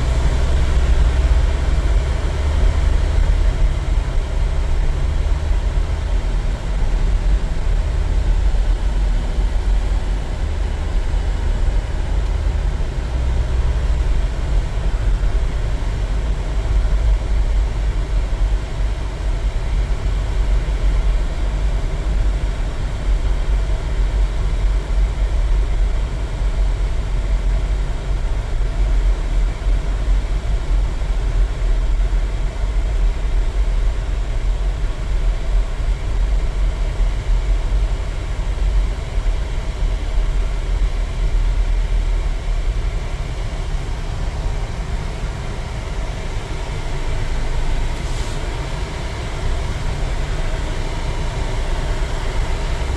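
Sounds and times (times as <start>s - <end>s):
car engine and tyre rumble: 0.0s - 52.9s.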